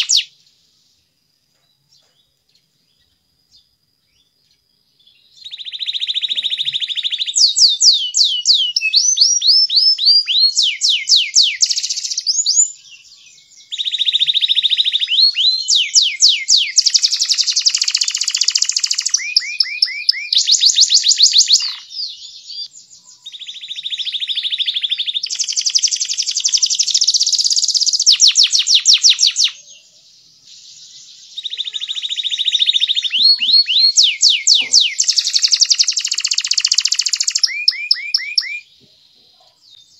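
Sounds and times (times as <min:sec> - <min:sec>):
canary singing trills and chirps: 0:00.0 - 0:00.4, 0:05.0 - 0:39.9.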